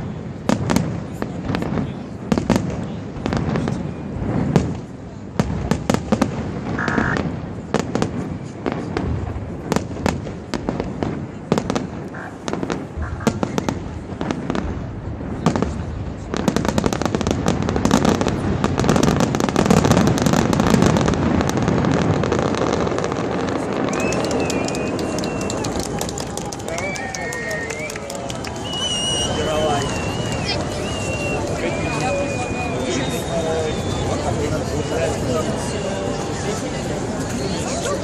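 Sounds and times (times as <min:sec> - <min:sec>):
fireworks banging and crackling: 0:00.0 - 0:38.0.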